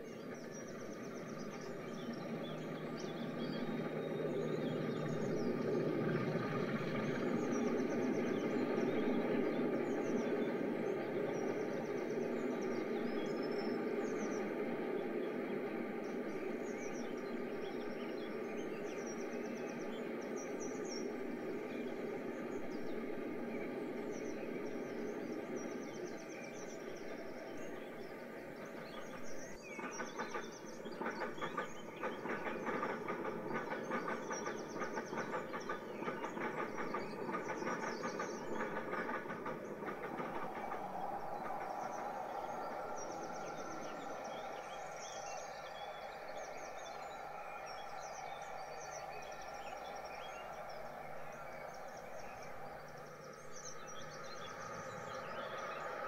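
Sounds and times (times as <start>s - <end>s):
train rumbling past: 0.0s - 56.0s
birds chirping: 0.2s - 56.0s.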